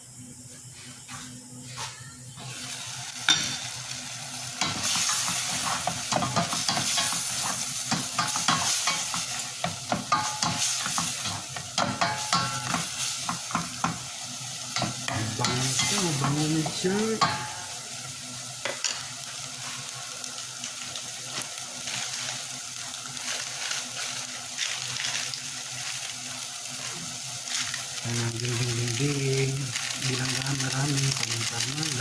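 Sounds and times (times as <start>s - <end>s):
food sizzling in pan: 1.2s - 32.0s.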